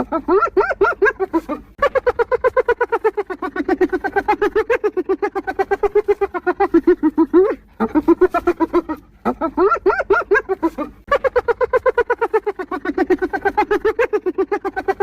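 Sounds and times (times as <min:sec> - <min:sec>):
hyena giggling: 0:00.0 - 0:15.0.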